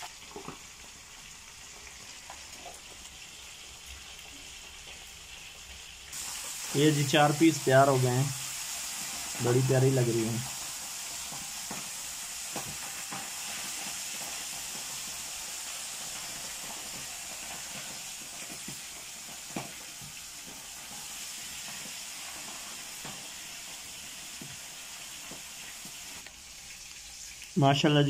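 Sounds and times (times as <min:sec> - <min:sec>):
fish sizzling in oil: 0:00.0 - 0:28.0.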